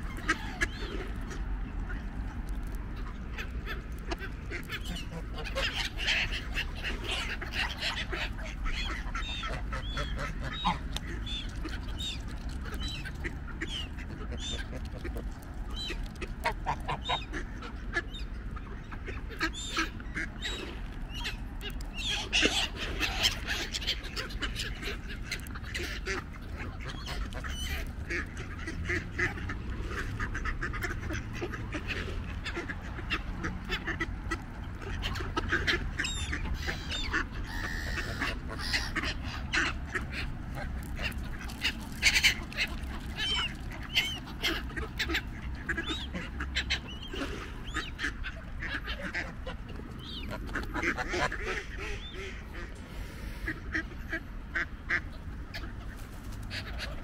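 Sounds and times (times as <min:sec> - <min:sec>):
ducks quacking: 0:00.0 - 0:57.0
geese honking: 0:02.9 - 0:18.2, 0:18.8 - 0:57.0.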